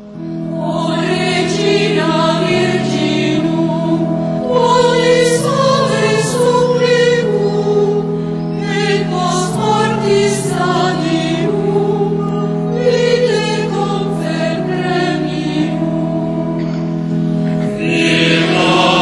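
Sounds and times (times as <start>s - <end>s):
choir singing sacred music: 0.0s - 19.0s
sustained low chords: 0.0s - 19.0s.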